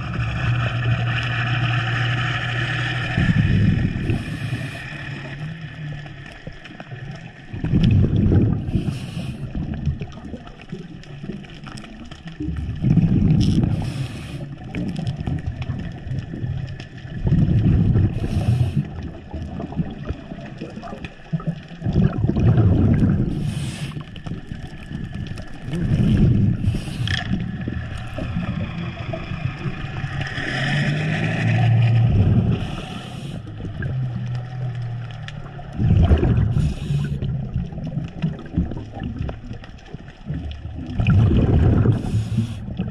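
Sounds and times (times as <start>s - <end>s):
gurgling bubbles: 0.0s - 42.9s
muffled underwater water noise: 0.0s - 42.9s.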